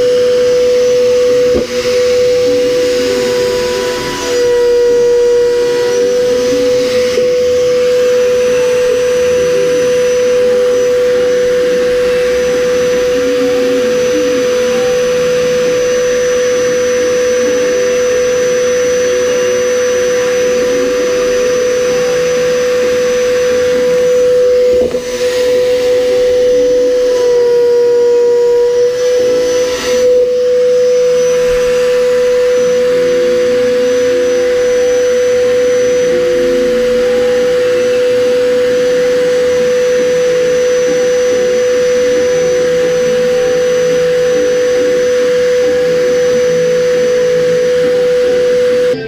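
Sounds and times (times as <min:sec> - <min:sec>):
electric motor high whine: 0:00.0 - 0:49.0.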